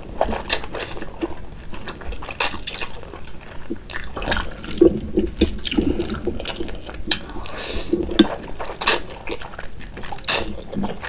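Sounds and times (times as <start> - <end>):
wet chewing and lip smacking: 0.2 - 11.0.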